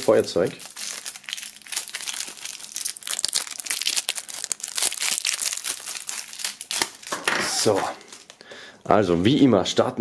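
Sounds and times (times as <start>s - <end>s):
plastic film crinkling: 0.0s - 8.4s.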